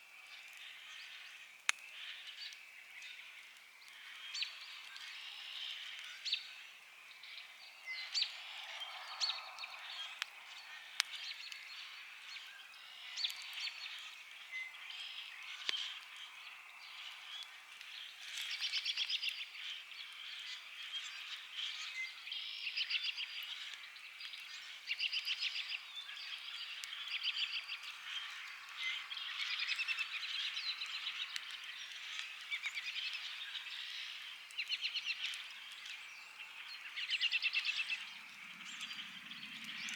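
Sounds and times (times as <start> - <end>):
campfire crackling and popping: 0.1 - 39.9
birds chirping: 0.3 - 39.9.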